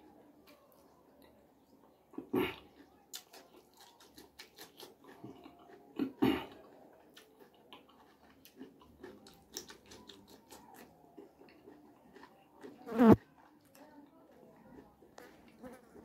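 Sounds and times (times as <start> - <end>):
crunchy cucumber chewing: 2.2 - 16.0.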